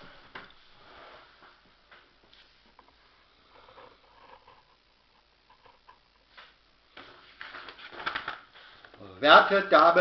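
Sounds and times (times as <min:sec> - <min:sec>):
faint clicks and rustles: 0:00.0 - 0:09.1.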